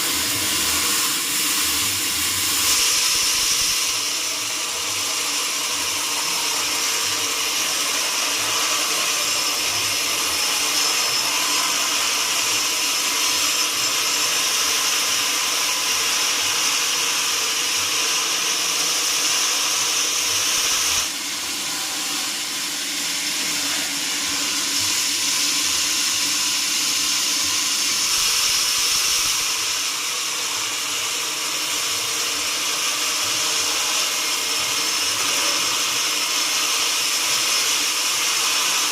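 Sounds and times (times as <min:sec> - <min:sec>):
sawmill saw whining through wood: 0:00.0 - 0:38.9.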